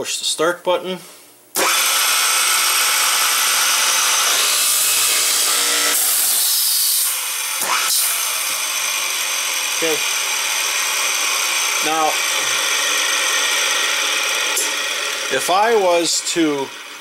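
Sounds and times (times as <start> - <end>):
boring machine motor: 1.6 - 17.0
drill bits boring into plywood: 1.6 - 17.0.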